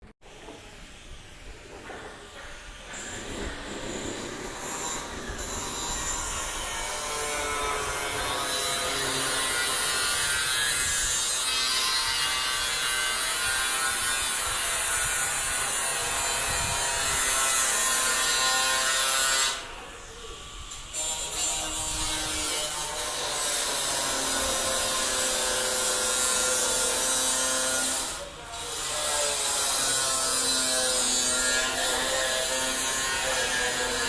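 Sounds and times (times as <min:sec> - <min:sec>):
saw cutting through metal: 0:00.3 - 0:34.0.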